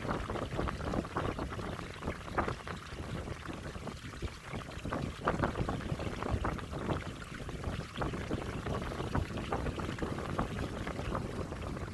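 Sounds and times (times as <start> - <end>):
water lapping against a hull: 0.0 - 11.9
wind buffeting microphone: 0.0 - 11.9.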